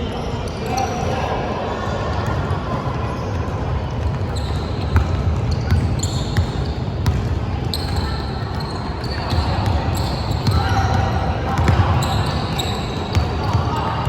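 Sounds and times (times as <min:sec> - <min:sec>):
din of gym hall: 0:00.0 - 0:14.0.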